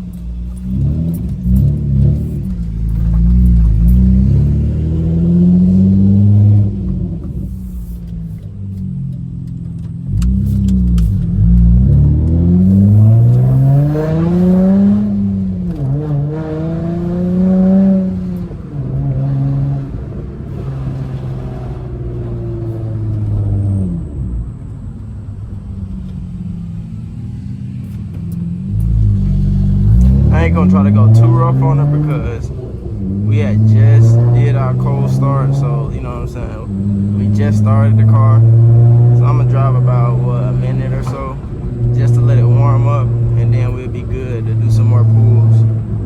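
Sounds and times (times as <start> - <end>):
car exhaust note: 0.0 - 46.0.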